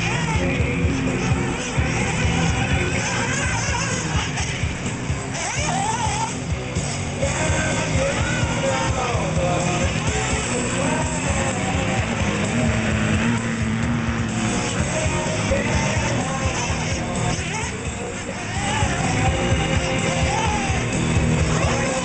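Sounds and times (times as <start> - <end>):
rock song with vocals: 0.0 - 22.0.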